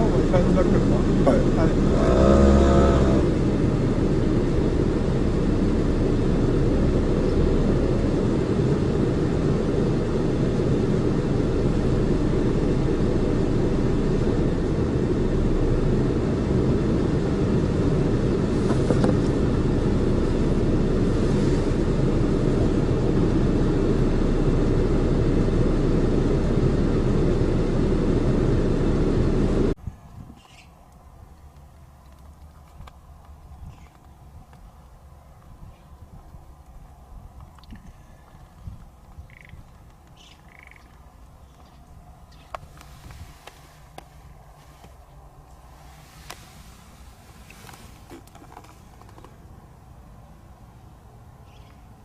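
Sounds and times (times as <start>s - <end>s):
car driving road noise: 0.0s - 52.0s.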